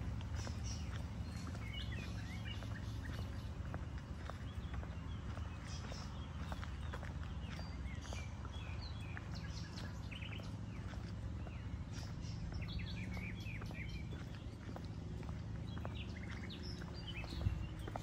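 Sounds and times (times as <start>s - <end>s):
low steady rumble: 0.0s - 18.0s
small birds chirping: 0.0s - 18.0s.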